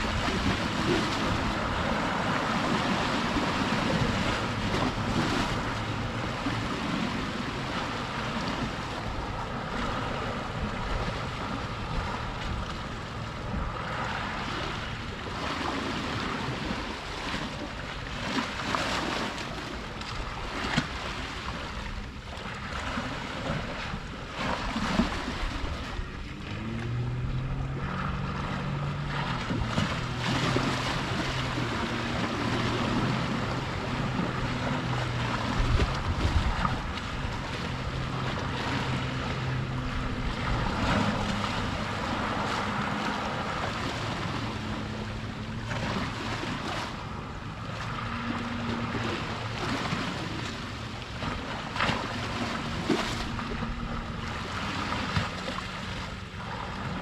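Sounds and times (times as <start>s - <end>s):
boat engine droning: 0.0s - 57.0s
sea waves washing: 0.0s - 57.0s
wind on microphone: 0.0s - 57.0s.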